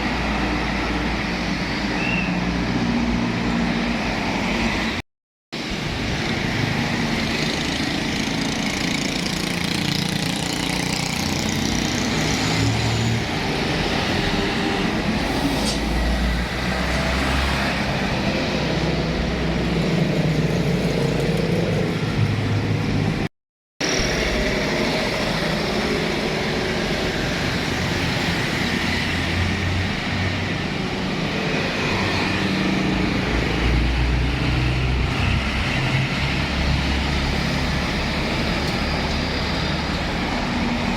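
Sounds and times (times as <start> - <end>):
road noise: 0.0 - 40.9
heavy trucks passing: 5.6 - 40.9.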